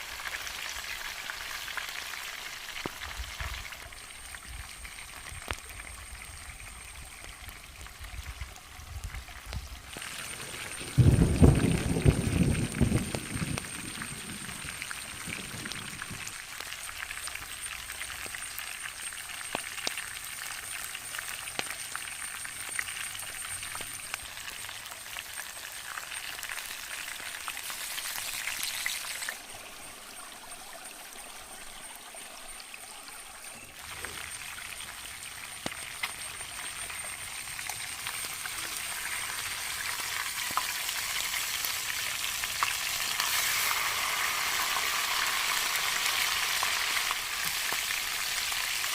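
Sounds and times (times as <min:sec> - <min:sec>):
chicken frying in hot oil: 0:00.0 - 0:48.9.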